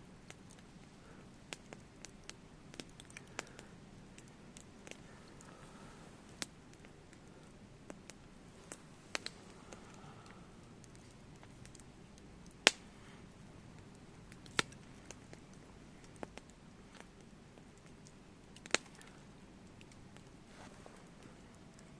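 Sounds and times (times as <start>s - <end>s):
campfire pops and crackles: 0.0s - 21.9s
low hiss: 0.0s - 21.9s.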